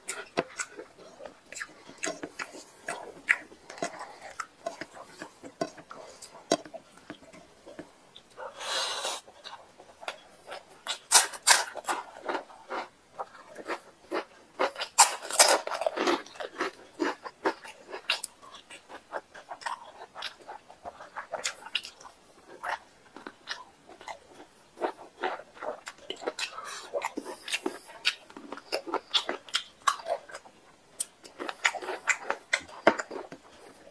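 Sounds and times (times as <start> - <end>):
wet chewing and mouth clicks: 0.0 - 33.9.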